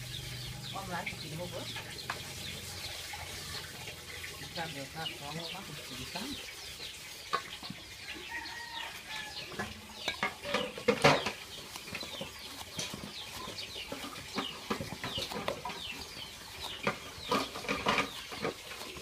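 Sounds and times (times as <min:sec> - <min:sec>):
chickens clucking and peeping: 0:00.0 - 0:19.0.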